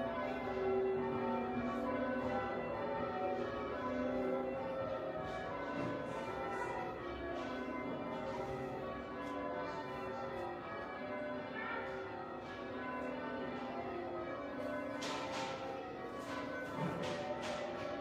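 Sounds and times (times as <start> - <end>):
church bells change-ringing: 0.0 - 18.0.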